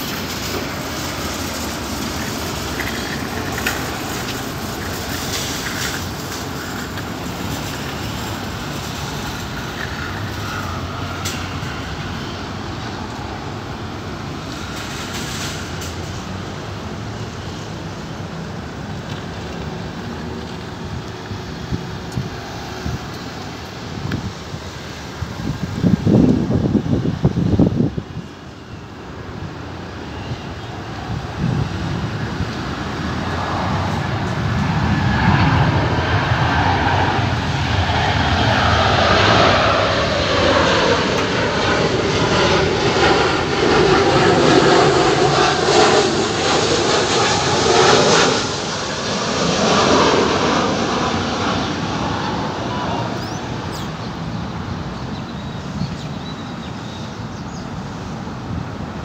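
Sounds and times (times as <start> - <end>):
airliner passing overhead: 0.0 - 59.0
jet engine whine: 0.0 - 59.0.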